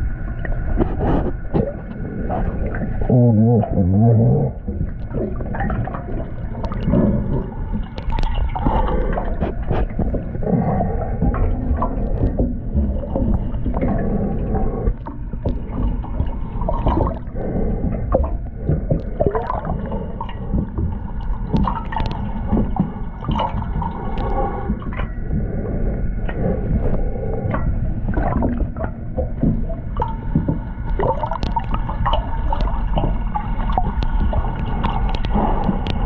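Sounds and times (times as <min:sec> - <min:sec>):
underwater churning water: 0:00.0 - 0:36.0.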